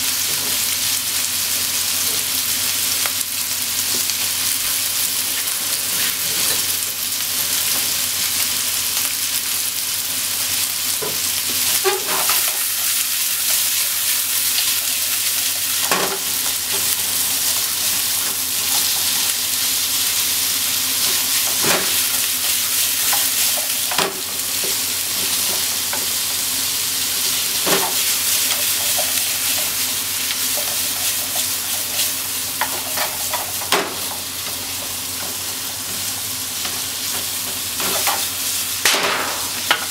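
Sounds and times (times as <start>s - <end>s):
meat and onion sizzling in a pan: 0.0s - 39.9s.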